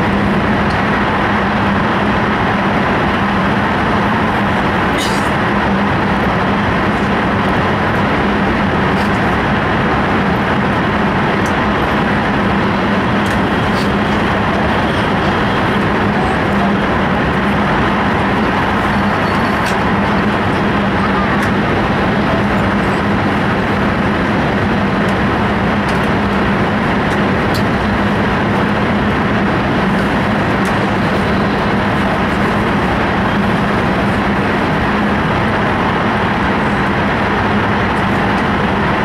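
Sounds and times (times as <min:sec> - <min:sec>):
steady low hum: 0:00.0 - 0:39.0
train running at speed: 0:00.0 - 0:39.0.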